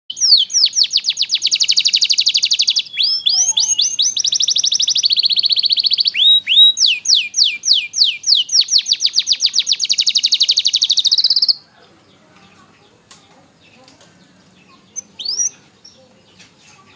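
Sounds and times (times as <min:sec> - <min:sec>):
canary singing fast trills: 0:00.1 - 0:16.9.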